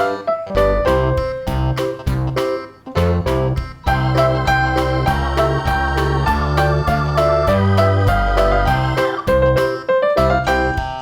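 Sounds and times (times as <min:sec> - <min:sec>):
bouncy electronic keyboard music: 0:00.0 - 0:11.0.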